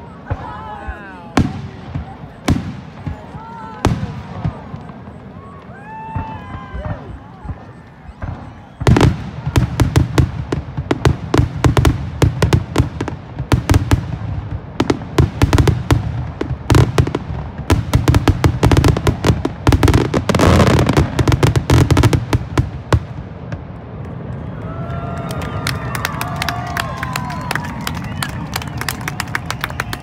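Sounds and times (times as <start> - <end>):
fireworks bursting: 0.0 - 24.4
fireworks crackle: 0.0 - 30.0.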